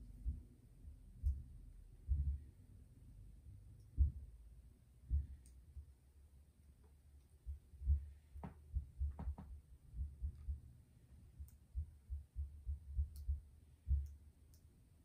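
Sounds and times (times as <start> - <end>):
soft low thumps: 0.0 - 6.0, 7.4 - 14.2.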